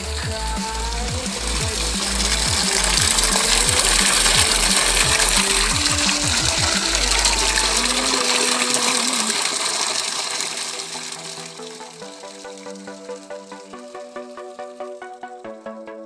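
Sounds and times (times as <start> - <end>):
music with pulsing bass beat: 0.0 - 16.0
water gushing and splashing: 0.2 - 14.8.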